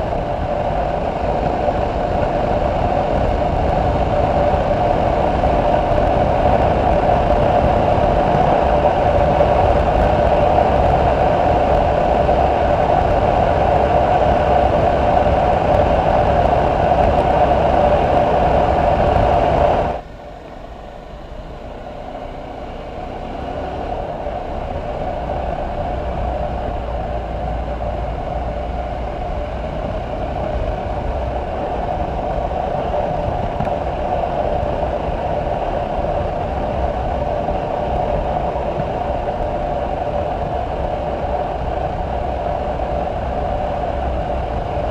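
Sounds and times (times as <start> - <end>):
motorcycle engine drone: 0.0 - 44.9
wind rush on microphone: 0.0 - 44.9.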